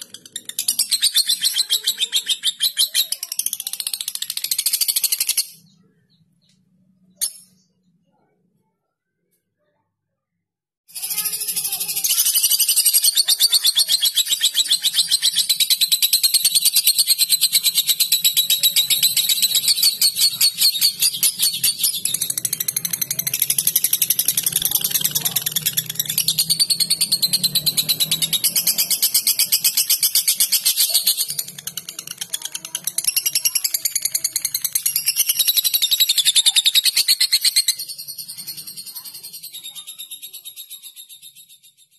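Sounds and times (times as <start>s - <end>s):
lovebird chattering trill: 0.0s - 5.6s, 11.0s - 41.8s.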